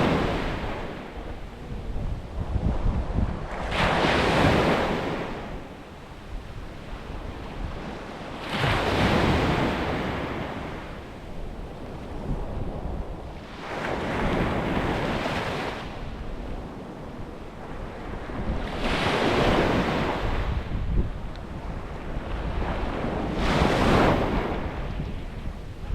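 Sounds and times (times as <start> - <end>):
waves breaking on a beach: 0.0 - 25.9
wind rumble on microphone: 0.0 - 25.9.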